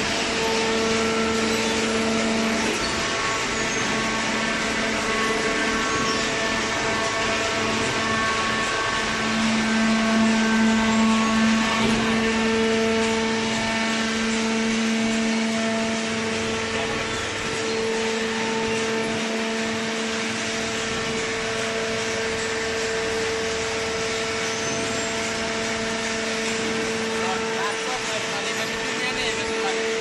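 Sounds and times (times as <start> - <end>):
baler machine humming and whining: 0.0 - 30.0.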